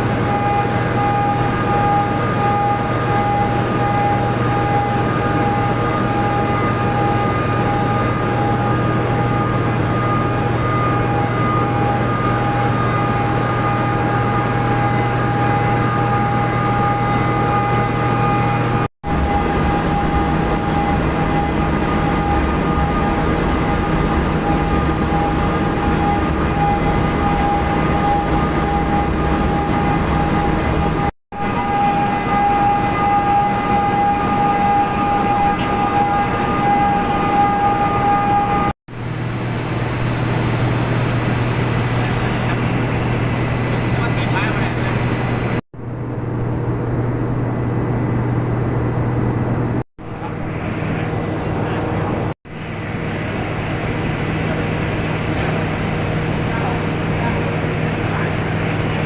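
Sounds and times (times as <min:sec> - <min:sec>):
industrial machinery hum with whine: 0:00.0 - 0:59.0.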